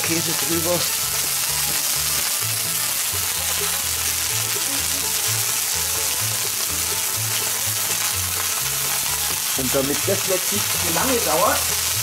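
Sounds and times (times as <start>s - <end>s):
background music with bass line: 0.0s - 12.0s
food sizzling on hot plate: 0.0s - 12.0s.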